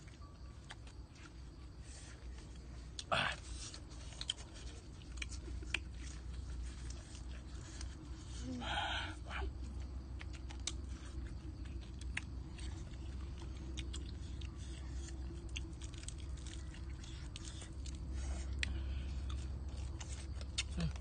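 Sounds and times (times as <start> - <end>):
chewing fried fish: 0.0 - 8.4, 9.2 - 21.0
low steady rumble: 0.0 - 21.0.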